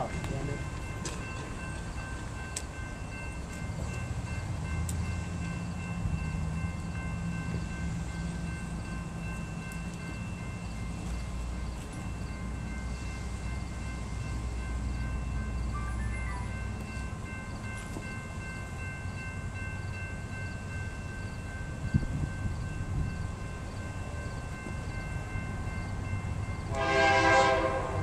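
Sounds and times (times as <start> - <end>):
high ringing tones: 0.0 - 26.7
distant freight train rumble: 0.0 - 28.0.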